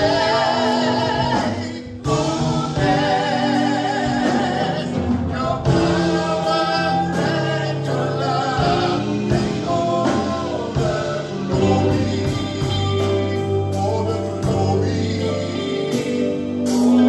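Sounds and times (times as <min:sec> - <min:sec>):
gospel band playing with singers: 0:00.0 - 0:17.0.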